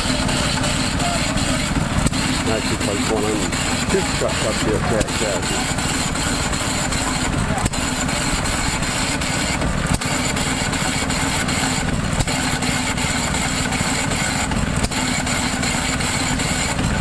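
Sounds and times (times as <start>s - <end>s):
clattering machine noise: 0.0s - 17.0s
engine knock: 0.0s - 17.0s.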